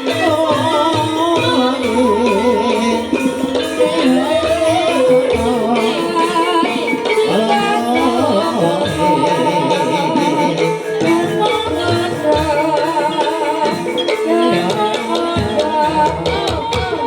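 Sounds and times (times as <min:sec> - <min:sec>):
drums: 0:00.0 - 0:17.0
person singing: 0:00.0 - 0:17.0
wavering ornamented melody: 0:00.0 - 0:17.0.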